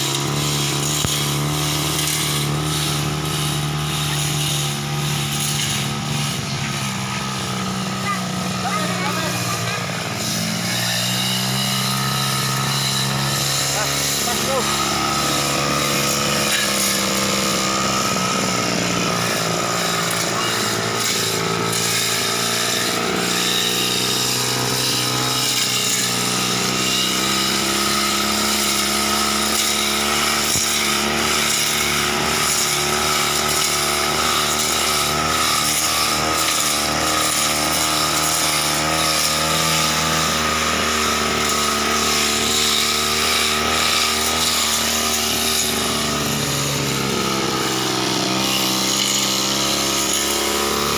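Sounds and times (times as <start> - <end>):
brush cutter engine running: 0.0 - 50.9.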